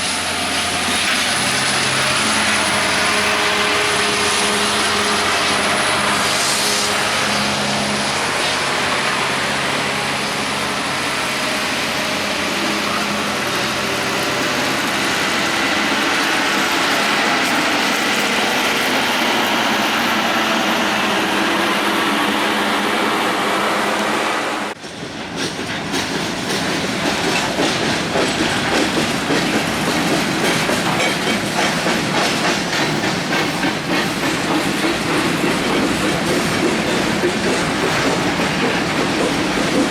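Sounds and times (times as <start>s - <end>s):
freight train rumbling: 0.0s - 39.9s
train wheels clacking over rail joints: 0.0s - 39.9s.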